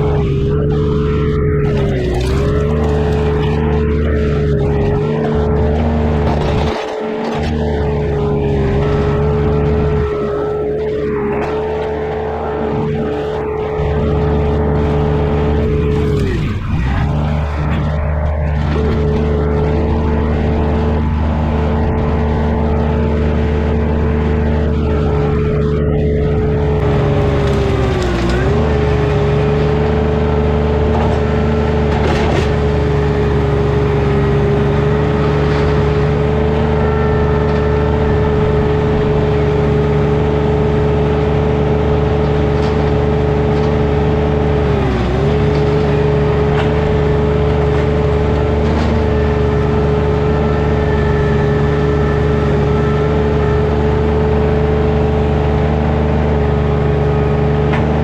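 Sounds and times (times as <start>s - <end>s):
land-clearing machine engine running: 0.0s - 58.0s.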